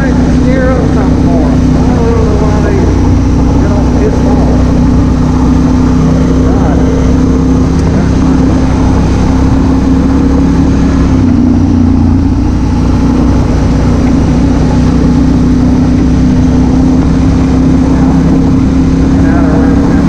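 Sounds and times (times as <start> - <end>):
motorcycle engine cruising: 0.0 - 20.0
wind rush: 0.0 - 20.0.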